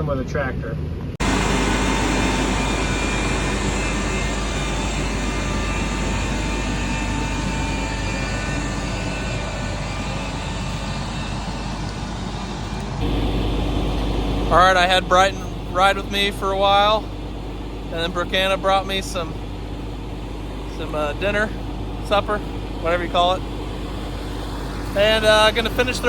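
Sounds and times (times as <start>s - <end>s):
tractor engine running: 1.2s - 26.0s.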